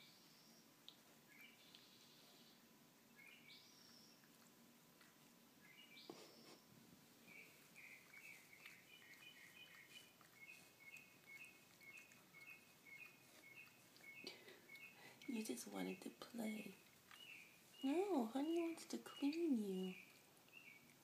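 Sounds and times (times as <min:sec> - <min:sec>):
faint bird song: 0:00.0 - 0:21.0.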